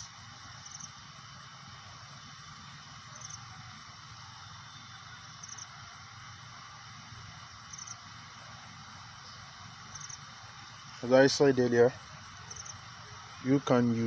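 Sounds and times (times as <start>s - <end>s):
cricket chirping: 0.0s - 14.0s
steady low hiss: 0.0s - 14.0s.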